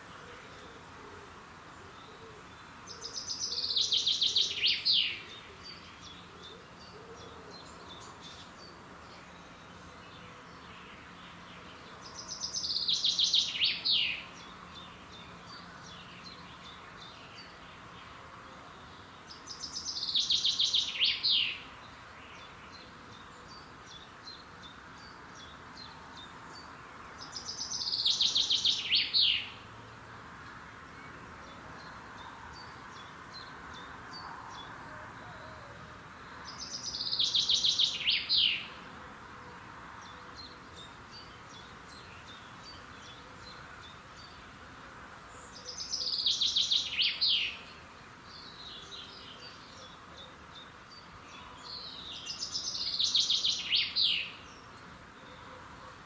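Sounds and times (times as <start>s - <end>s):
faint calls of other birds: 0.0s - 29.7s, 30.9s - 56.0s
songbird singing: 0.0s - 56.0s.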